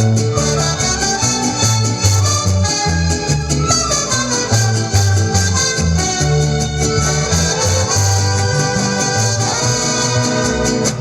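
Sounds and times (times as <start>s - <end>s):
bass line: 0.0s - 11.0s
instrumental love song music: 0.0s - 11.0s.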